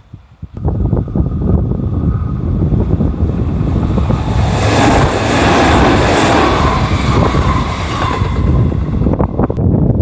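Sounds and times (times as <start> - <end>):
wind buffeting microphone: 0.0 - 10.0
electric train passing: 0.6 - 10.0.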